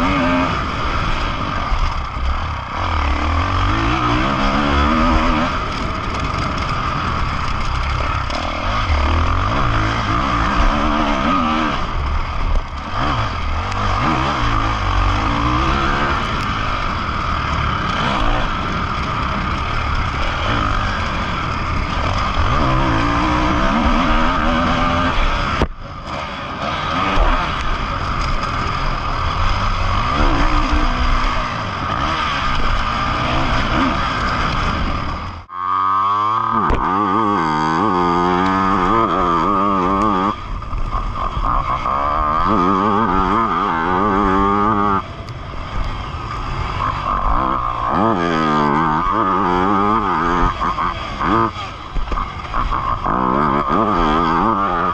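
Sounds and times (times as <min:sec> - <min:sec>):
motocross engine revving: 0:00.0 - 0:54.9.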